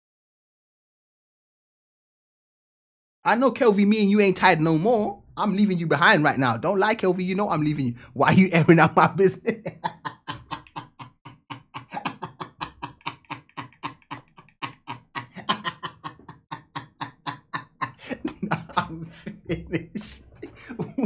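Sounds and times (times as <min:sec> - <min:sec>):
rapid voice-like syllables: 0:03.3 - 0:21.0.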